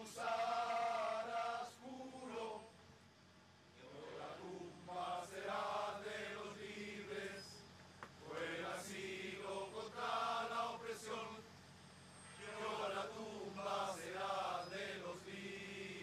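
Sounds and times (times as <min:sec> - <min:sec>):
crowd chanting in unison: 0:00.0 - 0:02.7, 0:03.8 - 0:07.6, 0:08.2 - 0:11.5, 0:12.3 - 0:16.0.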